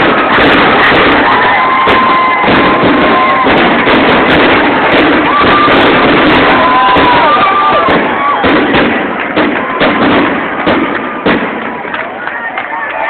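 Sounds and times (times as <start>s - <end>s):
fireworks bursts and crackle: 0.0s - 13.0s
whistling fireworks: 0.0s - 13.0s.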